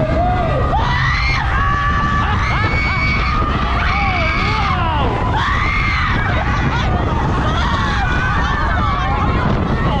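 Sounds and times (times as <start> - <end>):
riders screaming: 0.0 - 9.4
steady low rumble: 0.0 - 10.0.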